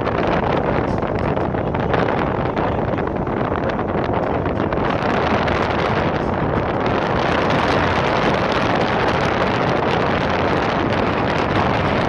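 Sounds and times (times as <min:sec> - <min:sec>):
boat engine running: 0:00.0 - 0:12.0
water wash rushing: 0:00.0 - 0:12.0
wind on microphone: 0:00.0 - 0:12.0.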